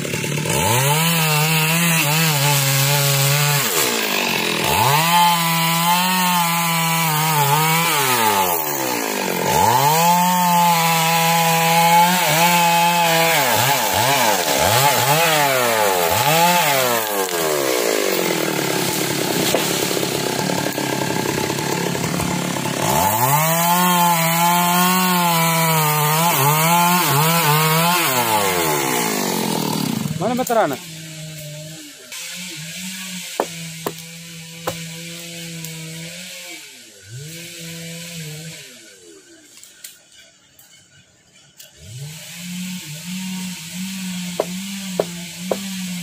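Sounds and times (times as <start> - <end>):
chainsaw cutting tree trunk: 0.0 - 39.4, 41.7 - 46.0.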